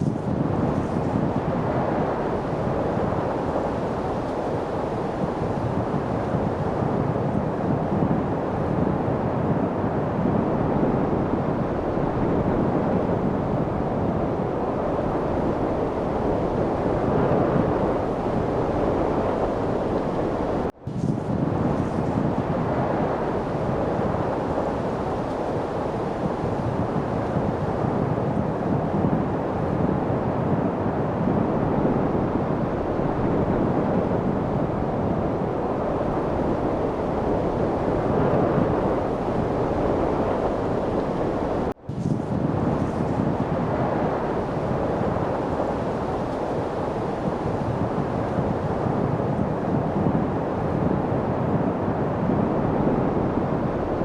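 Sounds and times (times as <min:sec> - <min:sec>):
rushing wind: 0:00.0 - 0:54.0.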